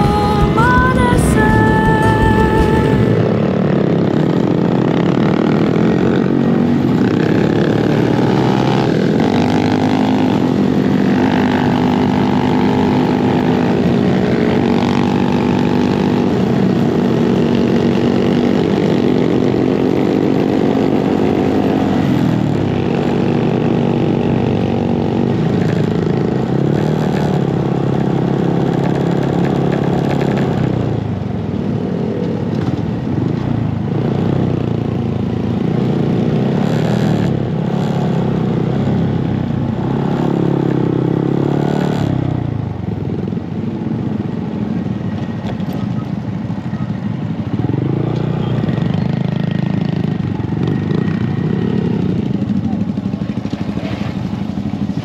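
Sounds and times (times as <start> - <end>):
motorcycle engine riding: 0.0 - 55.0.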